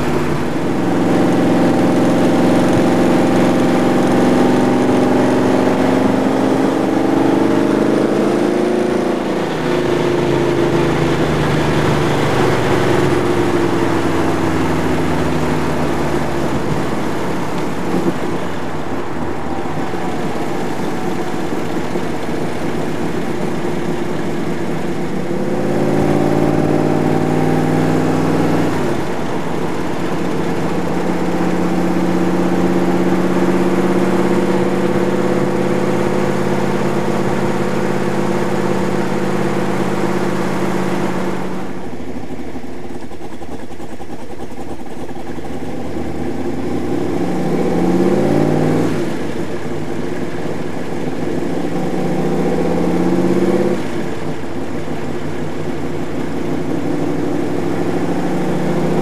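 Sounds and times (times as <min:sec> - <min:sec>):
car engine accelerating: 0:00.0 - 0:59.0
wind and road noise: 0:00.0 - 0:59.0.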